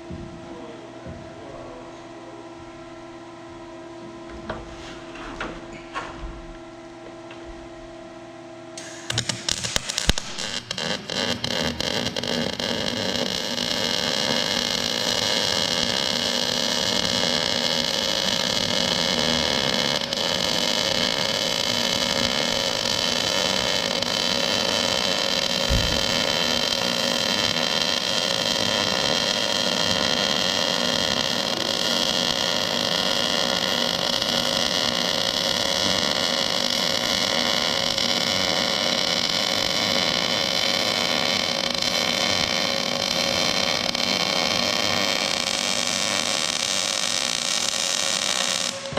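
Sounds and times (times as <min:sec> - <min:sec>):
arc welder hissing and humming: 0:08.7 - 0:48.9.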